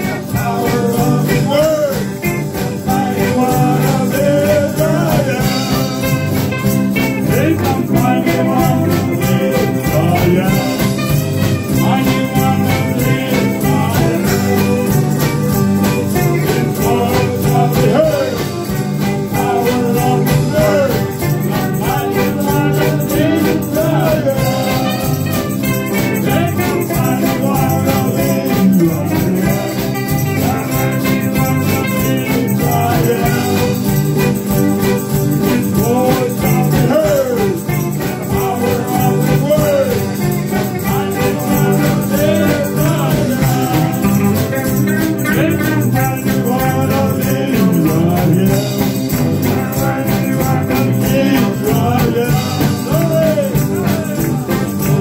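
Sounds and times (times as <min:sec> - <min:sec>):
band accompaniment: 0:00.0 - 0:55.0
people singing into microphones: 0:00.0 - 0:55.0
tambourine shaken: 0:00.0 - 0:55.0.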